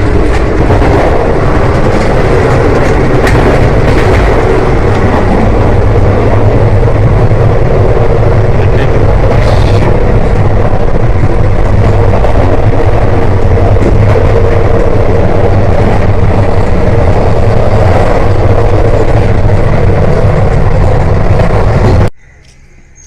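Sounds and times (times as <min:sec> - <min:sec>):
passenger train running at speed: 0:00.0 - 0:23.0.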